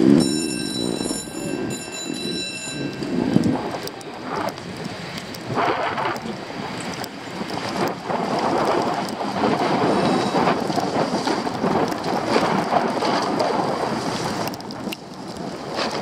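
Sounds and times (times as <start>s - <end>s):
skis scraping over snow: 0.0s - 16.0s.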